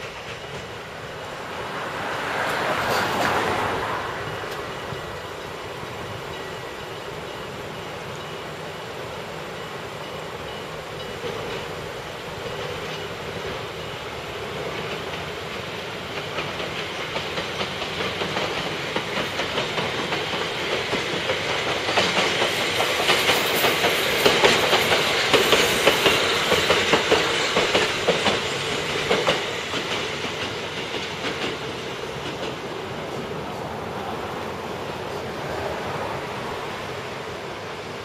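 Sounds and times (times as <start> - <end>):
train wheels clickety-clack: 0.0 - 38.0.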